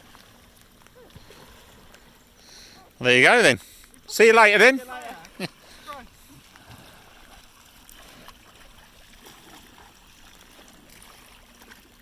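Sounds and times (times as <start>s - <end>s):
water lapping and trickling: 0.0s - 12.0s.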